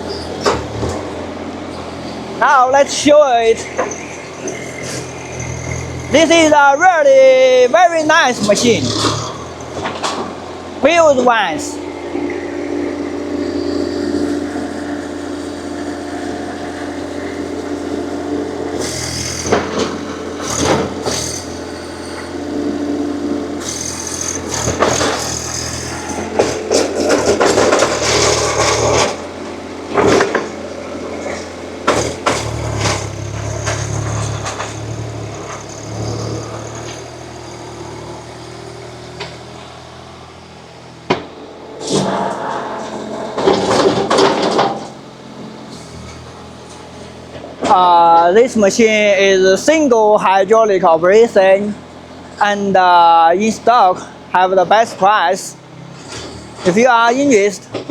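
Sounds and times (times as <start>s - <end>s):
excavator clanks and scrapes: 0.0s - 50.1s, 50.9s - 57.9s
diesel engine running: 0.0s - 57.9s.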